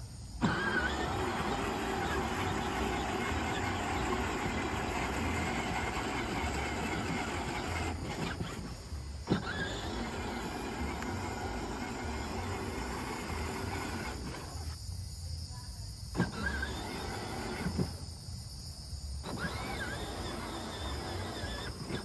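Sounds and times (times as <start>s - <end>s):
electric toy car motor whirring: 0.4s - 14.8s, 16.1s - 18.1s, 19.2s - 22.0s.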